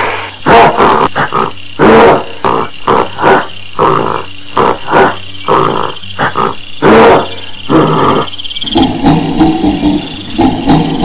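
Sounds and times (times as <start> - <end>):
gorilla grunting: 0.0 - 11.0.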